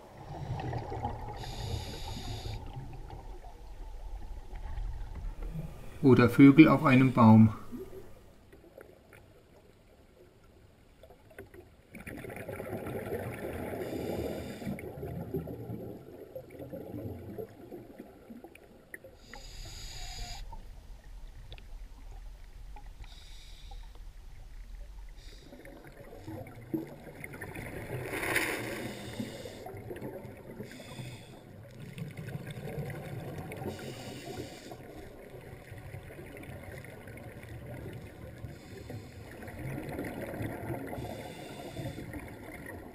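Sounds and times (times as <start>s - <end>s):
scuba exhaust bubbles gurgling: 0.0s - 8.3s, 11.9s - 42.9s.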